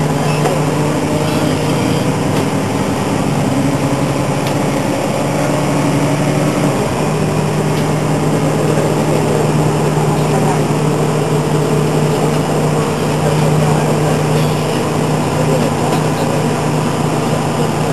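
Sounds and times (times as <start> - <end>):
bus engine hum and rumble: 0.0 - 17.9.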